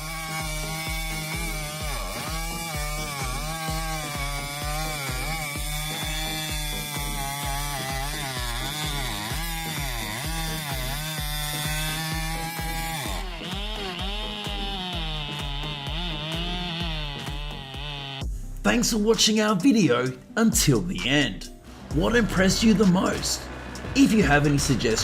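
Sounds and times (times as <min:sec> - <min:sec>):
chainsaw cutting wood: 0:00.0 - 0:18.3, 0:21.6 - 0:25.0
background music with steady beat: 0:00.0 - 0:25.0.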